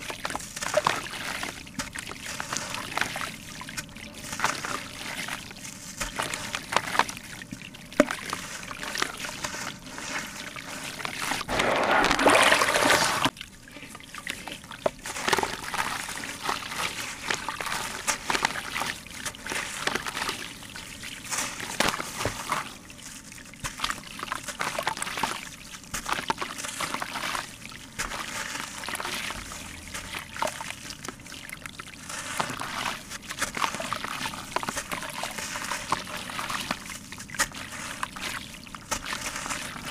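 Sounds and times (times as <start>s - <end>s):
grit trickling into water: 0.0s - 39.9s.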